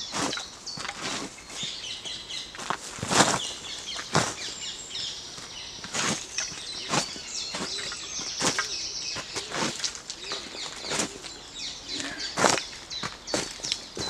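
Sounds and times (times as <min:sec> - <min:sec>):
boots scuffing dirt and debris: 0:00.0 - 0:04.7, 0:05.3 - 0:11.3, 0:12.0 - 0:14.0
songbirds calling: 0:00.0 - 0:14.0.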